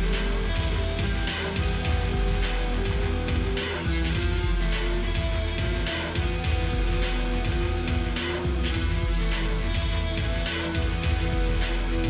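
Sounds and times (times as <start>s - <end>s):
film score music: 0.0s - 12.0s.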